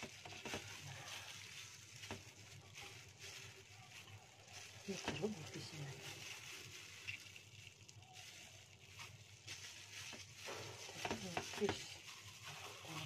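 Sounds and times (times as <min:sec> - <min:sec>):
plastic glove crinkling: 0:00.0 - 0:13.0.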